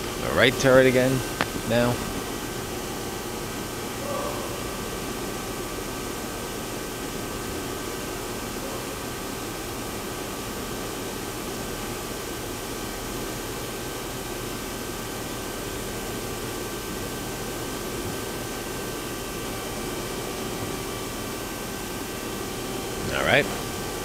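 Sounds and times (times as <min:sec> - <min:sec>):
machine tool hum and hiss: 0:00.0 - 0:24.0.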